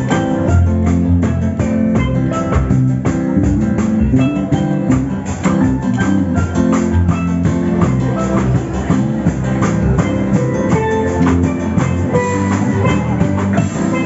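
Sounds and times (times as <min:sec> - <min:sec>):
music with drum beat: 0:00.0 - 0:14.0.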